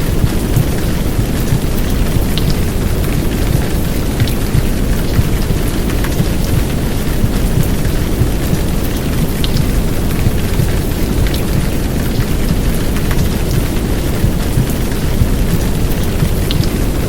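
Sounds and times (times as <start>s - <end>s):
heavy rain downpour: 0.0s - 17.0s
low rumbling womb sound: 0.1s - 16.5s.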